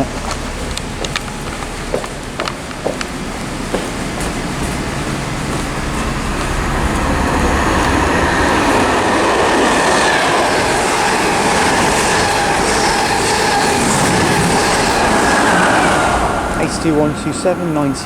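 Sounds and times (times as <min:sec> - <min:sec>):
high locomotive whine: 0:00.0 - 0:18.0
train wheels rushing on rail: 0:00.0 - 0:18.0.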